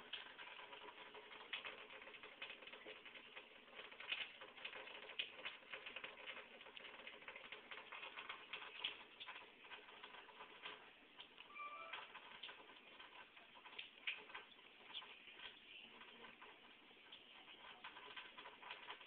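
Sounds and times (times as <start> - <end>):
cat lapping water: 0.0 - 11.5, 12.1 - 19.0.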